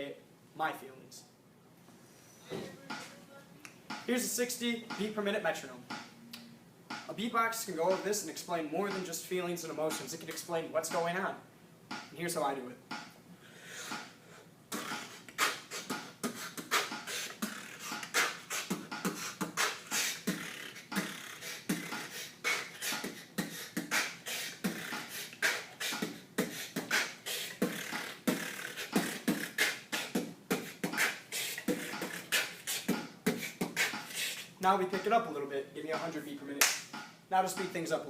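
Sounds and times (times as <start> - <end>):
person beatboxing: 2.5 - 3.2, 3.8 - 6.1, 6.9 - 11.2, 13.8 - 35.2, 35.9 - 37.9.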